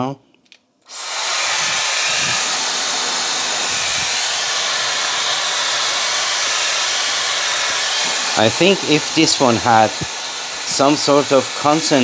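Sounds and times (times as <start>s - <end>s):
hair styler fan blowing air: 0.9s - 12.0s.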